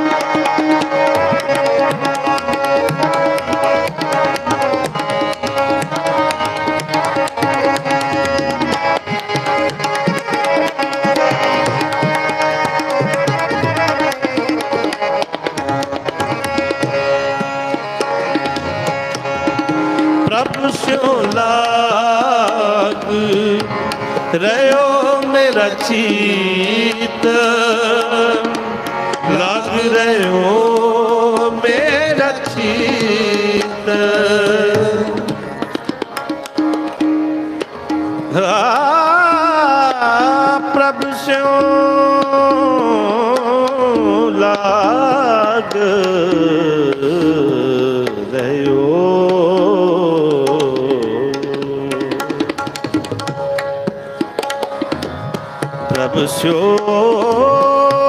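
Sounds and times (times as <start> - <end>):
man singing: 0.0 - 35.6, 38.3 - 53.0, 55.6 - 58.0
harmoniums playing held tones: 0.0 - 58.0
tabla beating rhythm: 0.0 - 58.0.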